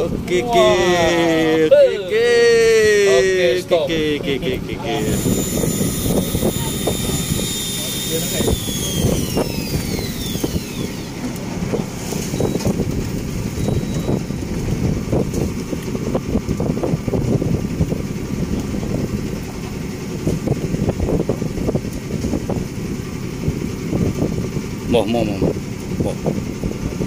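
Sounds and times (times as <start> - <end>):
boat motor rumbling: 0.0 - 27.0
wind buffeting microphone: 3.9 - 27.0.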